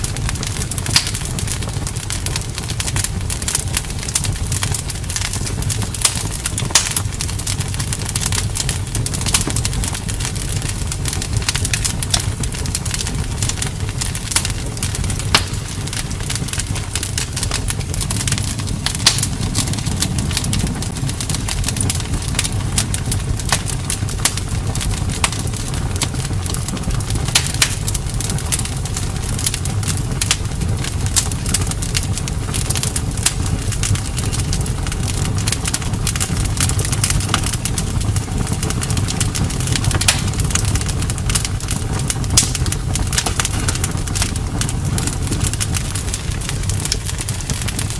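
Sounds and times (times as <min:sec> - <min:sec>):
campfire crackling and popping: 0:00.0 - 0:47.9
low fire rumble: 0:00.0 - 0:47.9.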